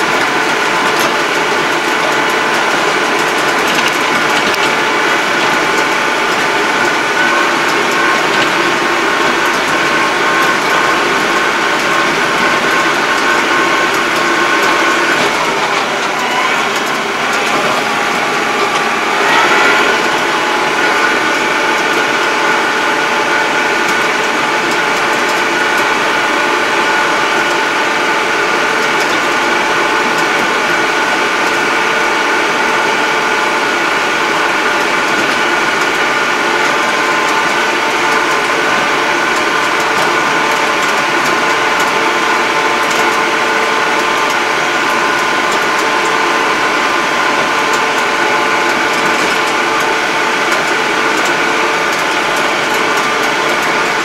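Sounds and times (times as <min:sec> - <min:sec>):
tractor diesel engine droning: 0:00.0 - 0:54.0.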